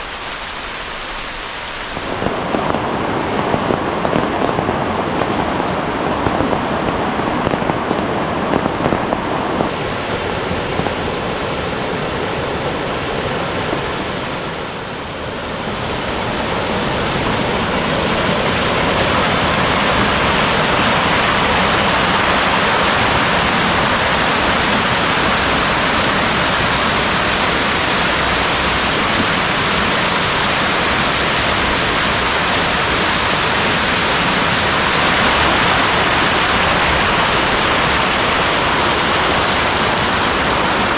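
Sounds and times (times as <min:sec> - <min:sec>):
rain pattering: 0:00.0 - 0:15.2, 0:15.8 - 0:40.9
stream rushing over cascades: 0:00.0 - 0:40.9.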